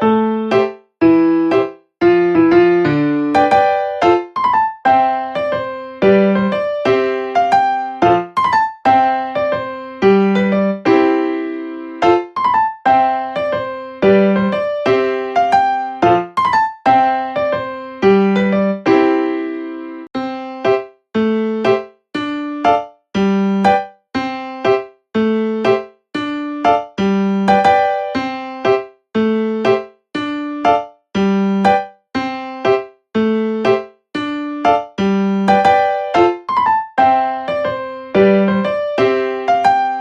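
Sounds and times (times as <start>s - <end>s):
gentle piano melody: 0.0s - 40.0s.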